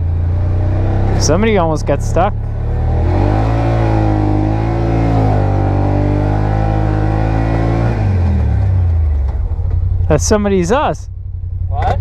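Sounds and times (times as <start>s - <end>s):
utv engine running under throttle: 0.0s - 12.0s.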